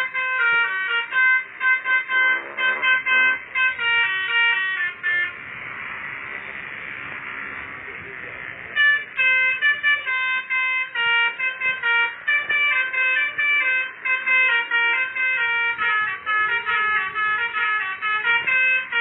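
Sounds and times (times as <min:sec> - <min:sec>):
multi-tone horn playing tune: 0:00.0 - 0:06.8, 0:08.6 - 0:19.0
steady hiss: 0:00.0 - 0:19.0.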